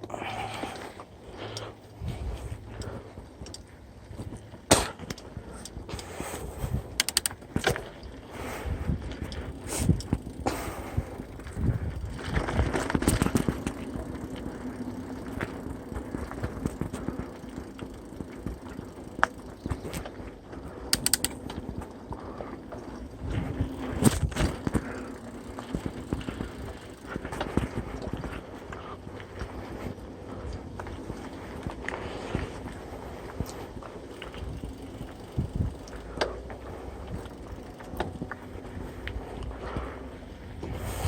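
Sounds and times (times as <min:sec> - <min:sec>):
bike knocking and rattling: 0:00.0 - 0:41.0
bike tyres rolling on dirt: 0:00.0 - 0:41.0.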